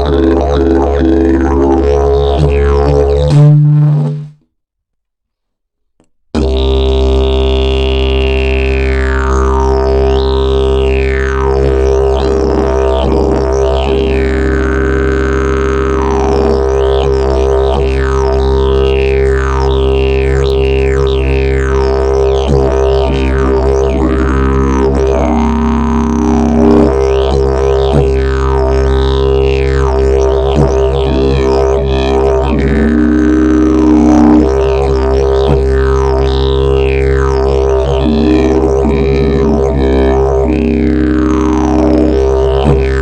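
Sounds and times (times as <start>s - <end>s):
didgeridoo drone: 0.0s - 4.4s, 6.4s - 43.0s
extra tone over drone: 6.4s - 43.0s.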